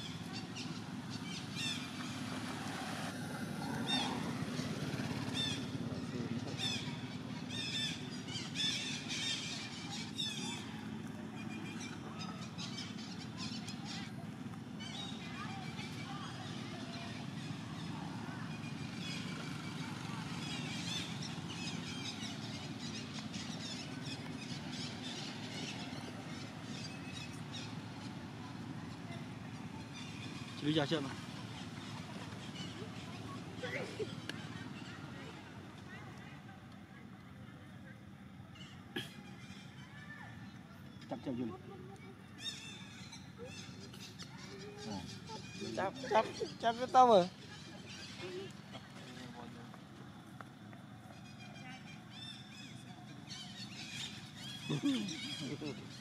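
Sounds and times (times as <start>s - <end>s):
low motor hum: 0.0s - 56.0s.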